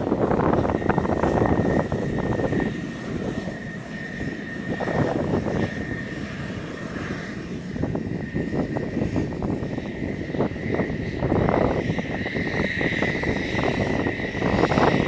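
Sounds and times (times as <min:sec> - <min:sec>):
jet engine idling: 0:00.0 - 0:15.0.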